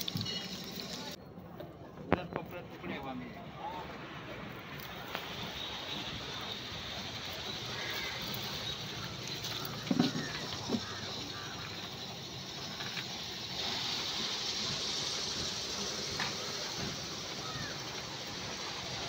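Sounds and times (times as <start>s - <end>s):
market activity hiss: 0.0s - 1.2s, 2.2s - 19.0s.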